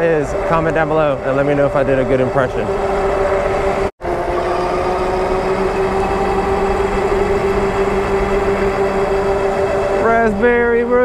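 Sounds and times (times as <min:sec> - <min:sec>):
electric motor hum: 0:00.0 - 0:11.0
tyre road noise: 0:00.0 - 0:11.0.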